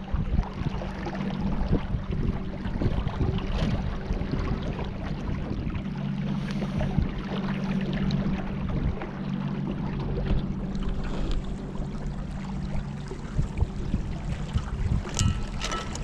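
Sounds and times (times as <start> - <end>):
boat motor running: 0.0 - 16.0
water splashing along hull: 0.0 - 16.0.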